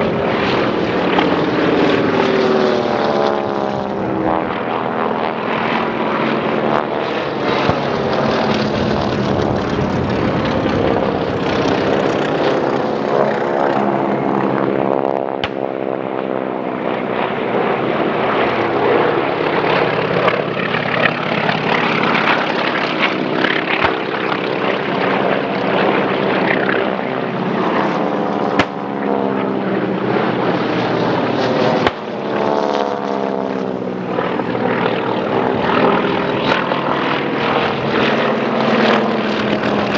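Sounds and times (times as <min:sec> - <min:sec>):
propeller planes flying by: 0:00.0 - 0:39.9.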